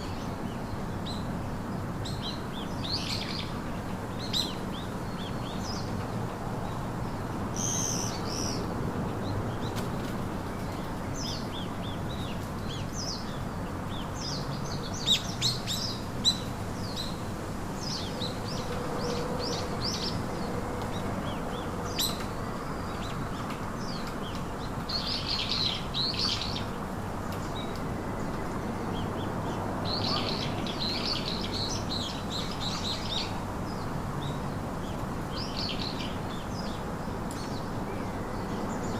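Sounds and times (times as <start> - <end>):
small birds chirping and trilling: 0.0 - 38.9
steady background hiss: 0.0 - 38.9.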